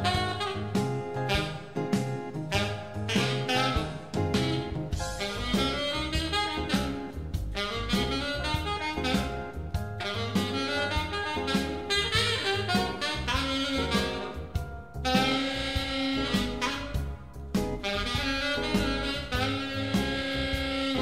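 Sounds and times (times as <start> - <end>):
bass and drums backing track: 0.0 - 21.0
saxophone jazz melody: 0.0 - 21.0.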